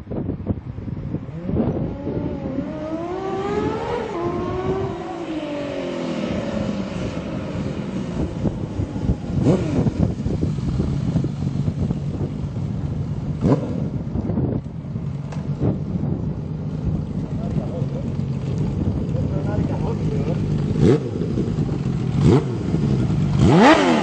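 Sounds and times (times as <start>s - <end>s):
motorcycle engine revving: 1.1s - 24.0s.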